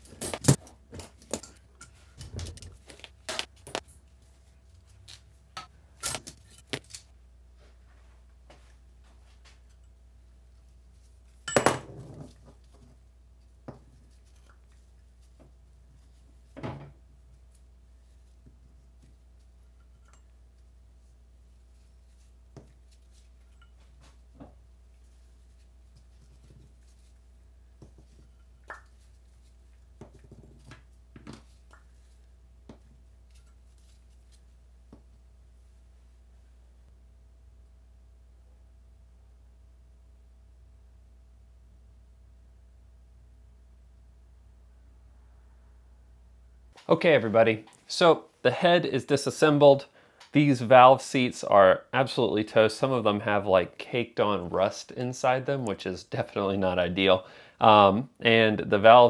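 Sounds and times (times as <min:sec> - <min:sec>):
low steady hum: 0:00.0 - 0:50.7.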